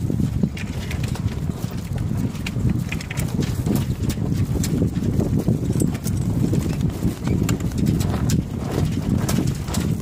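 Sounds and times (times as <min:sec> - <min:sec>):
sail and rigging clicks and taps: 0:00.0 - 0:10.0
wind rumbling on microphone: 0:00.0 - 0:10.0.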